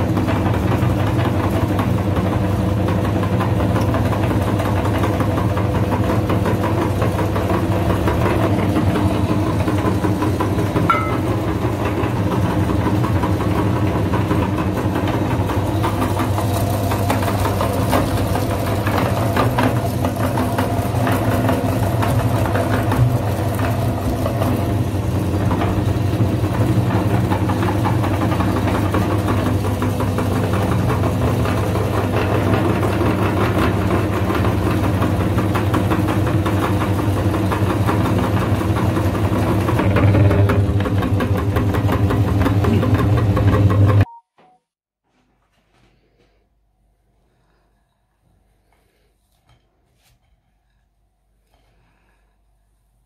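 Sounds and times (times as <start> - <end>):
electric meat grinder humming: 0.0 - 44.0.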